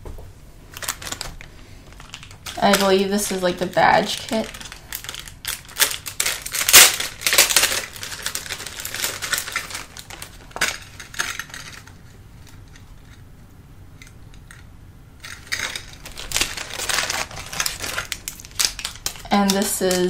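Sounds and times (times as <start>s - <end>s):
plastic wrap crinkling: 0.7s - 13.4s, 14.0s - 20.0s
crackles and hard clicks: 0.7s - 20.0s.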